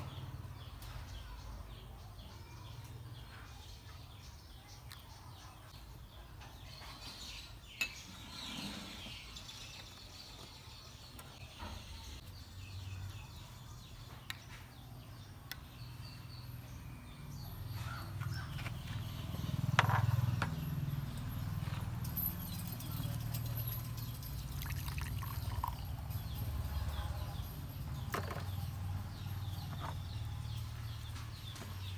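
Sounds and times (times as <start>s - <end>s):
faint birds chirping: 0.0s - 31.9s.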